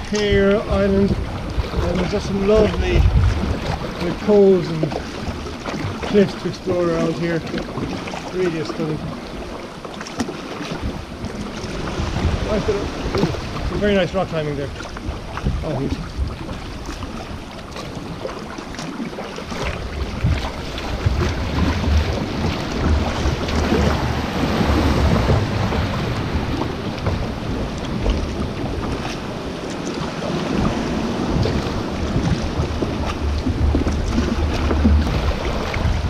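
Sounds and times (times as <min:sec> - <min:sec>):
wind buffeting microphone: 0:00.0 - 0:09.8, 0:10.4 - 0:36.0
paddle strokes splashing: 0:00.0 - 0:36.0
sea washing against rocks: 0:00.0 - 0:36.0.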